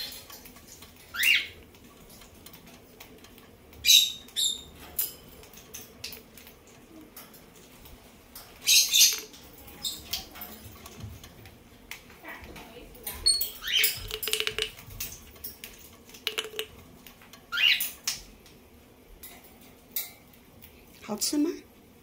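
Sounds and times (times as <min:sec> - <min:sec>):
parrot gnawing coconut shell: 0:00.0 - 0:18.6.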